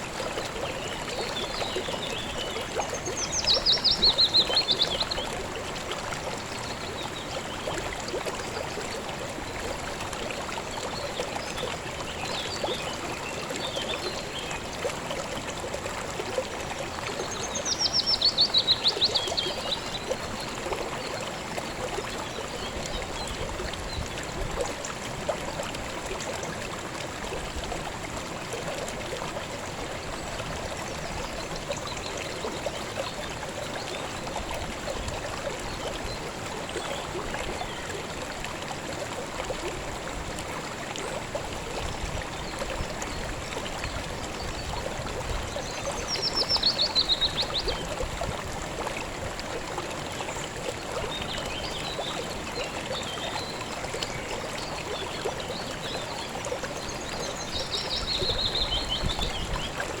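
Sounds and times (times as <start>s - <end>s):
stream running over rocks: 0.0s - 60.0s.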